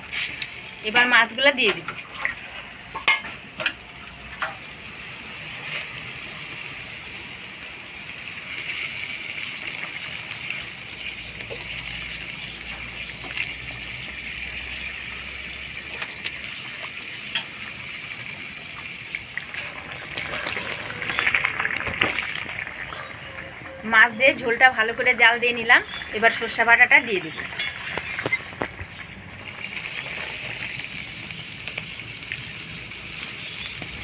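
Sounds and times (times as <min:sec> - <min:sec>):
curry bubbling: 0:00.0 - 0:34.0.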